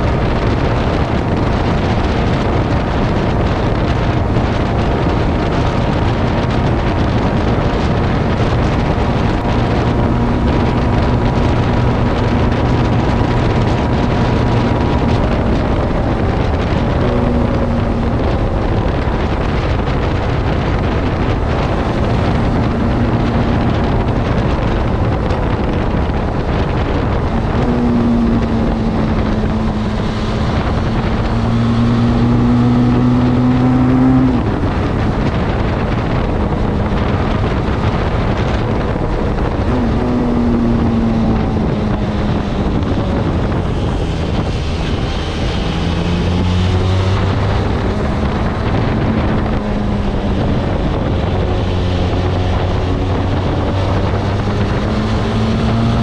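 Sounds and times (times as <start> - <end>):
motorcycle engine cruising: 0.0 - 56.0
wind buffeting microphone: 0.0 - 56.0.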